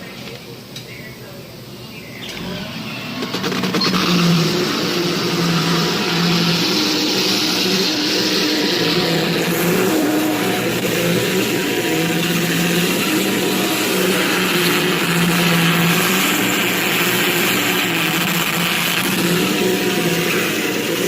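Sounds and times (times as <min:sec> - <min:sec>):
continuous hiss: 0:00.0 - 0:21.0
electric motor humming: 0:02.2 - 0:21.0.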